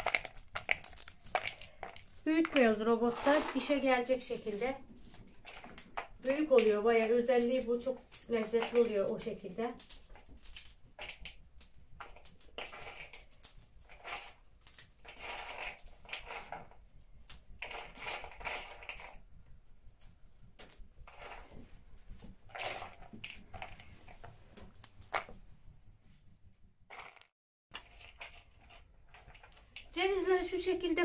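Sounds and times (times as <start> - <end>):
walnuts crumbled by hand: 0.0 - 21.4, 22.0 - 25.5, 26.9 - 30.1.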